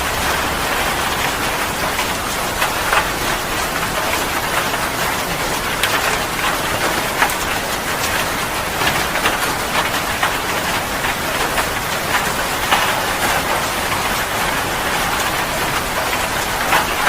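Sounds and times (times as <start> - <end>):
heavy rain falling: 0.0 - 17.0
raindrops splattering sharply: 0.0 - 17.0.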